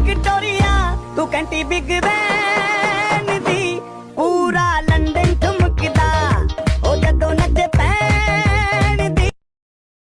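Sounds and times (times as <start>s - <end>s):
pop song with heavy bass beat: 0.0s - 9.4s.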